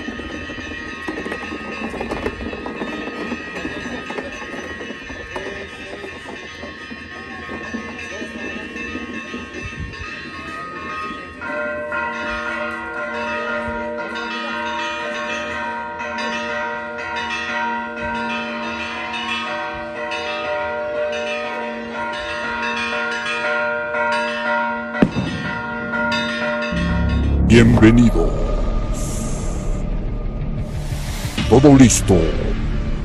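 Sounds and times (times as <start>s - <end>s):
church bells ringing: 0.0s - 30.2s.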